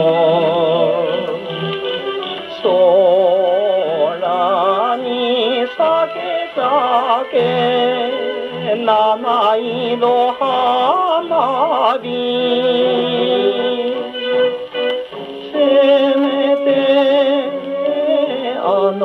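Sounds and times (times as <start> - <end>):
man singing with vibrato: 0.0 - 14.6, 15.2 - 19.0
instrumental accompaniment: 0.0 - 19.0.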